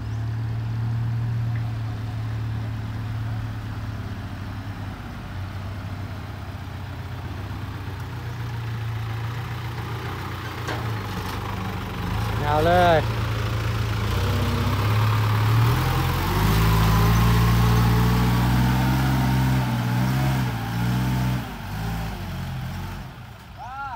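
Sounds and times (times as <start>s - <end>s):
diesel engine idling: 0.0s - 20.1s.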